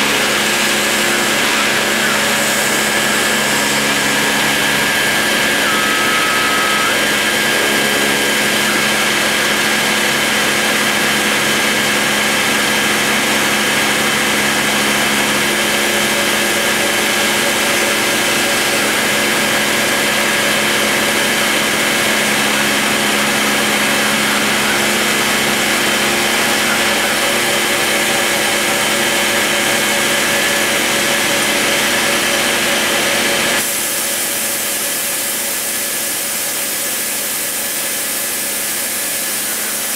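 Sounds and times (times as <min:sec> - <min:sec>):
rotary tool routing wood: 0:00.0 - 0:39.9.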